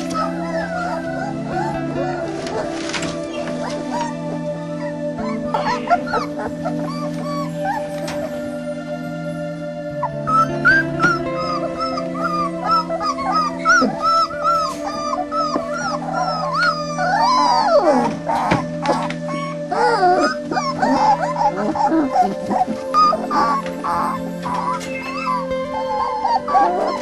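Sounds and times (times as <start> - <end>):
puppy howling: 0.0 - 8.9, 9.9 - 27.0
background music sustained tones: 0.0 - 27.0
puppies whining and yelping: 0.0 - 27.0.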